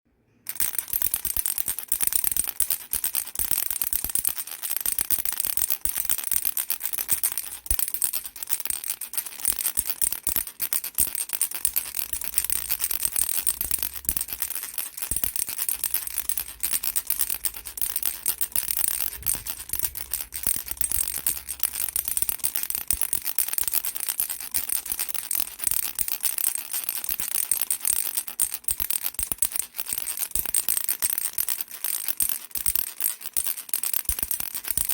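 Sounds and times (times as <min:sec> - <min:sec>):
baby rattle shaken: 0:00.5 - 0:34.9.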